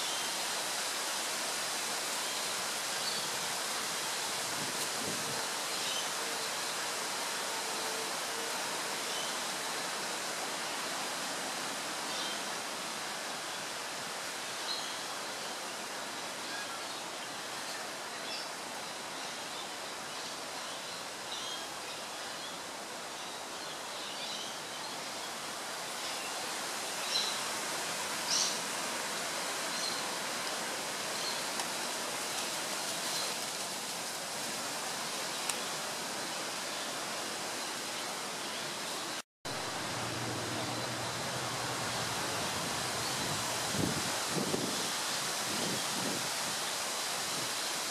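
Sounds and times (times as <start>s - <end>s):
outdoor background hiss: 0.0s - 47.9s.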